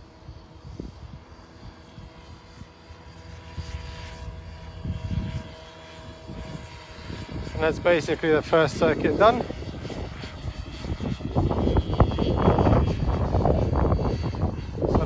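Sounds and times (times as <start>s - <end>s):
rc helicopter motor whine: 0.0s - 15.0s
low rumbling gusts: 0.1s - 15.0s.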